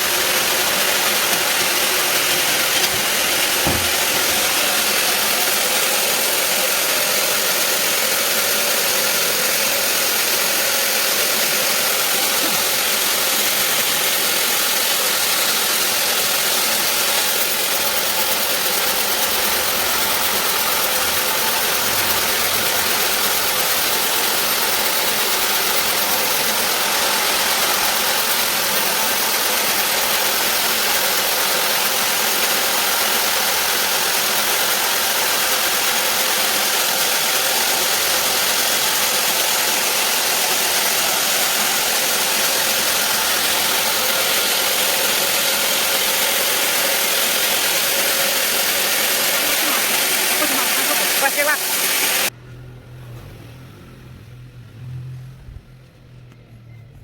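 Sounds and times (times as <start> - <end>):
band saw cutting through log: 0.0 - 52.3.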